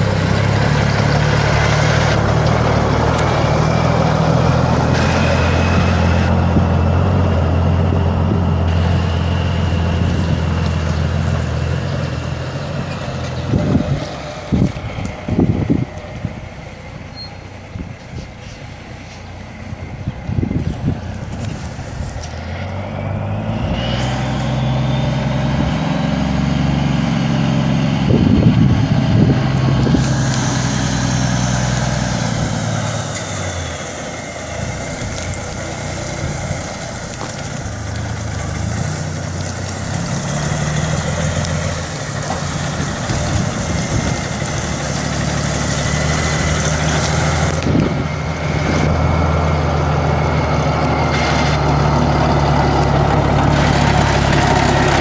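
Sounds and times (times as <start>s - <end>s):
truck diesel engine revving: 0.0s - 55.0s.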